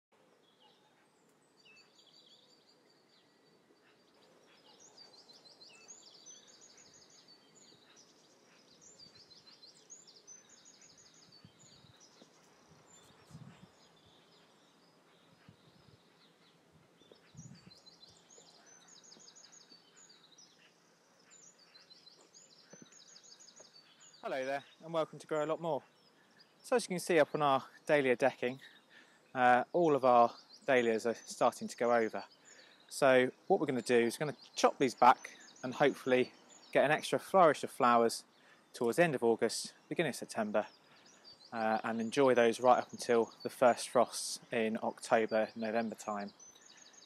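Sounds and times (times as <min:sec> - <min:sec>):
small birds singing: 0:00.2 - 0:47.0.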